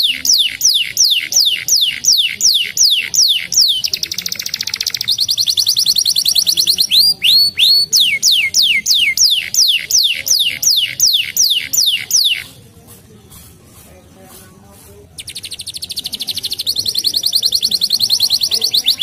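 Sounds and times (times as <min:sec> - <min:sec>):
canary singing: 0:00.0 - 0:12.8, 0:13.5 - 0:19.0.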